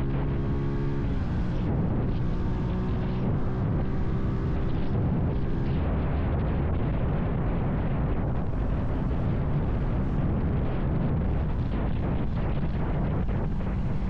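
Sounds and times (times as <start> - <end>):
motorcycle engine drone: 0.0 - 14.0
wind roaring on microphone: 0.0 - 14.0.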